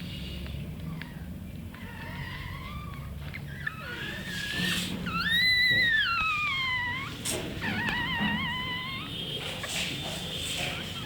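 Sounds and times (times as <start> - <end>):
puppy whining: 0.8 - 11.0.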